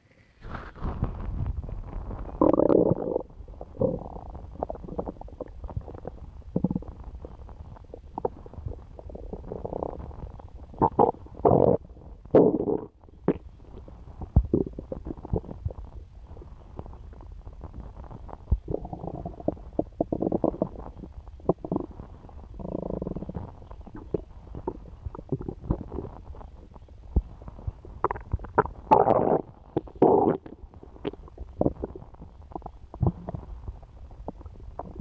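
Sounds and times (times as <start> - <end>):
stomach gurgling and rumbling: 0.2 - 35.0.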